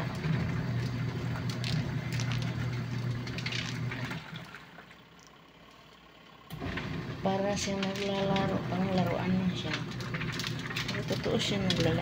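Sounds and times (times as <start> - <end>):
water churning in tub: 0.0 - 5.0, 6.6 - 12.0
washing machine motor hum: 0.0 - 12.0.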